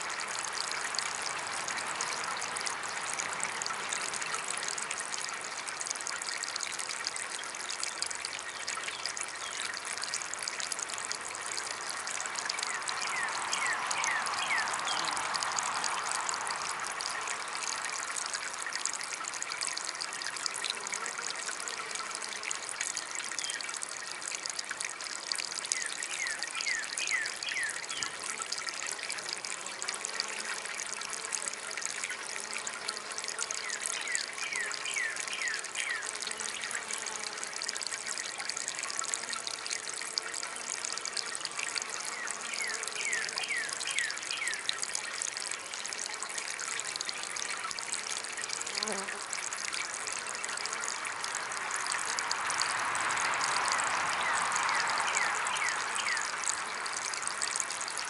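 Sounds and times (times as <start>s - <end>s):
small fountain trickling water: 0.0s - 58.0s.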